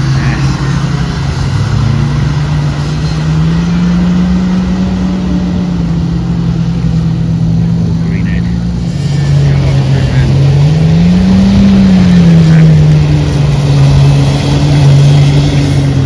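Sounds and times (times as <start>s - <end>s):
racing car engines running hard: 0.0s - 16.0s.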